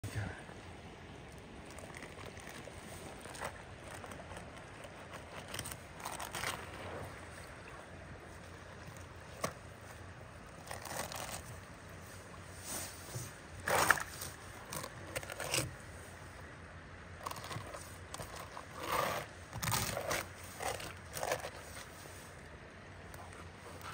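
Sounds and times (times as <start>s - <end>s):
wet handling of fish: 0.4s - 23.9s.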